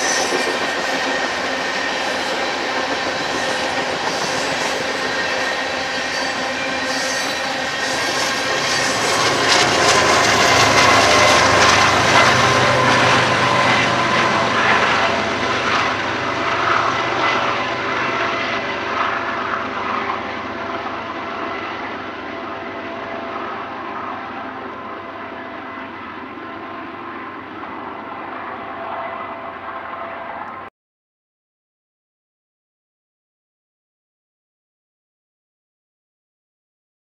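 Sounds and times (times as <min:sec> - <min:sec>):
diesel locomotive engine running: 0:00.0 - 0:30.7
steel wheels rumbling on rails: 0:00.0 - 0:30.7.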